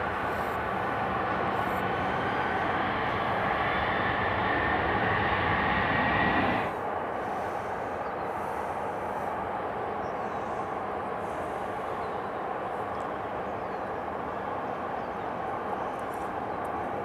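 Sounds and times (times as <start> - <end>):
jet engine high whine: 0.0 - 17.0
jet engine rumble: 0.0 - 17.0.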